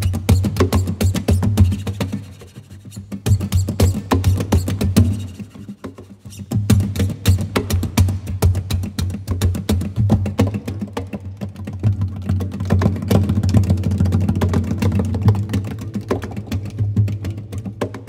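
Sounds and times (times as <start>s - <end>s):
hands tapping guitar bodies: 0.0s - 2.3s, 3.1s - 18.0s.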